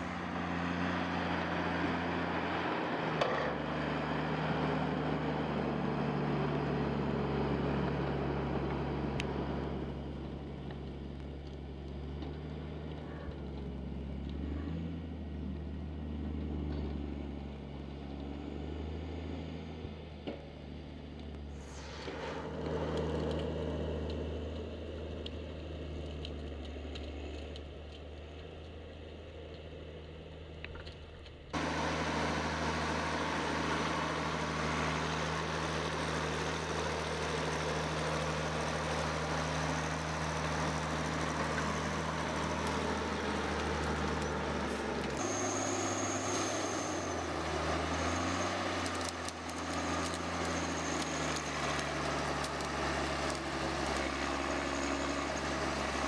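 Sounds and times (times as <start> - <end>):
machine engine humming: 0.0 - 56.0.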